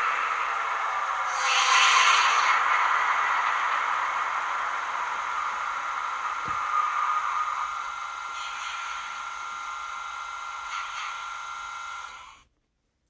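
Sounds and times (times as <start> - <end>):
model locomotive diesel engine sound: 0.0 - 12.4.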